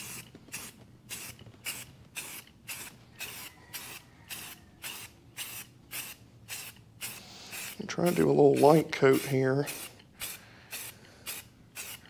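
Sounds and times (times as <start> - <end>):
spray can hissing in bursts: 0.0 - 12.0.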